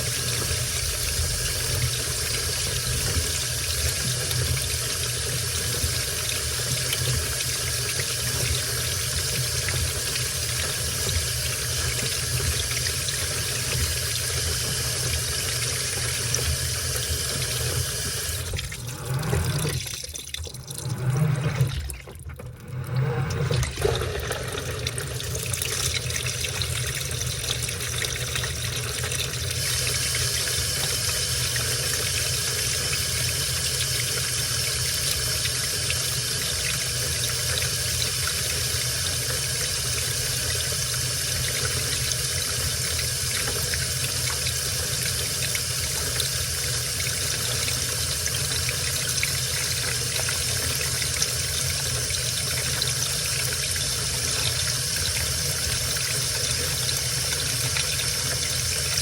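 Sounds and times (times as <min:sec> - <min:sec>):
water rushing into washing machine: 0:00.0 - 0:59.0.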